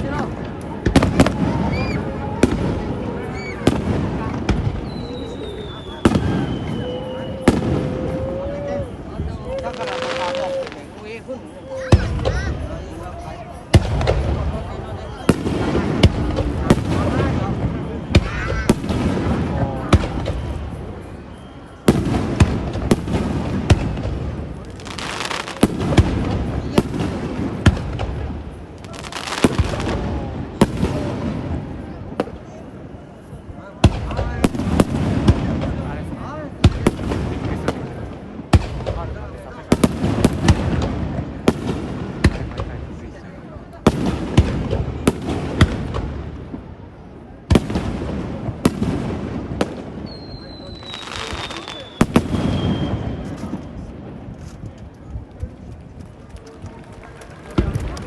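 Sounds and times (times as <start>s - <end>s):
fireworks booming: 0.0s - 58.0s
fireworks crackling hiss: 0.0s - 58.0s.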